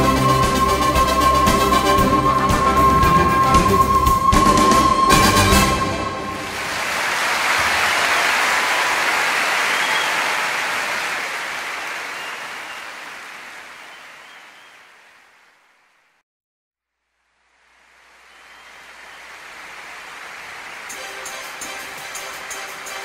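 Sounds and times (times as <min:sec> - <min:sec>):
audience applause: 0:00.0 - 0:15.7, 0:18.0 - 0:23.0.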